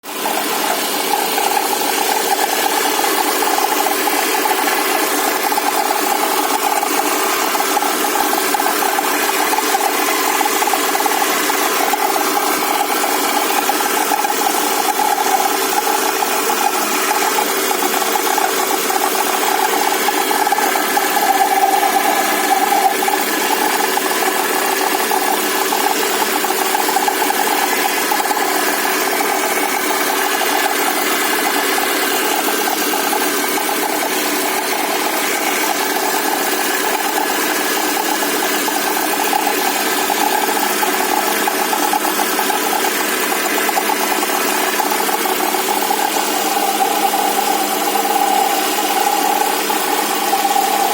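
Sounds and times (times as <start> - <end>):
engine idling: 0.0 - 50.9
motor whistle: 0.0 - 50.9.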